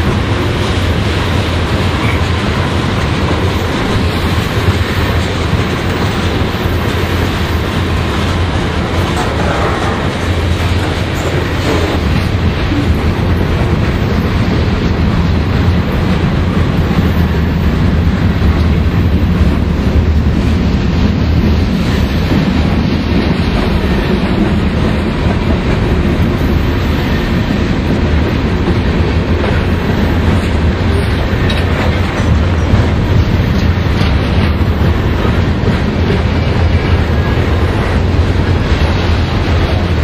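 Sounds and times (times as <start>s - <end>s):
diesel locomotives rumbling: 0.0s - 40.0s
wheels clacking on rail joints: 0.0s - 40.0s.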